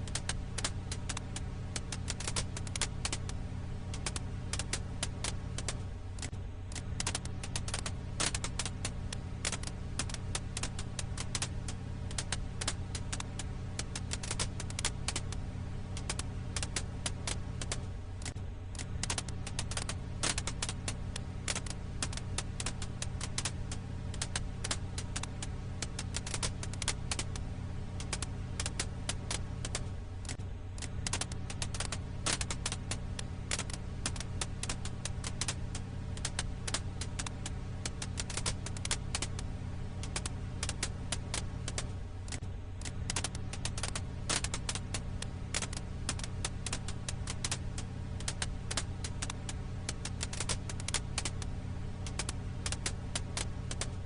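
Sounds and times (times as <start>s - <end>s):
low hum: 0.0s - 54.0s
wood fire crackling: 0.0s - 54.0s.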